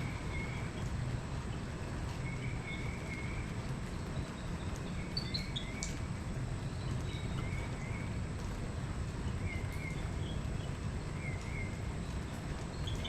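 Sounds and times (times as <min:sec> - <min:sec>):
steady low background noise: 0:00.0 - 0:13.0.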